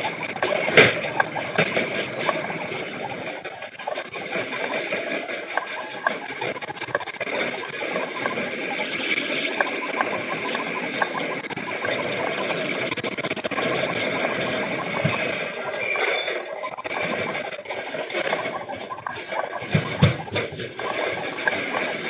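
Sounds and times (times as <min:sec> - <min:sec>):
earthquake shaking din: 0:00.0 - 0:22.0.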